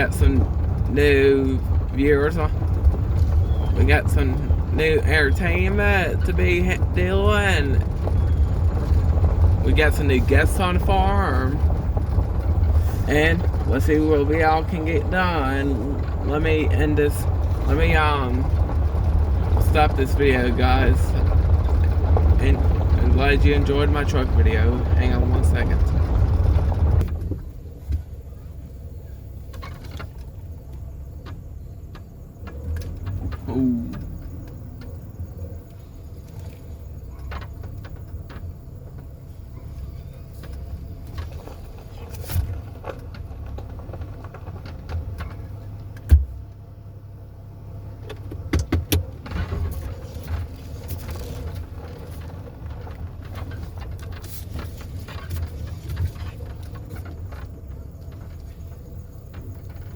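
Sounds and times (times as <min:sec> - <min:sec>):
truck engine rumbling: 0:00.0 - 0:59.9.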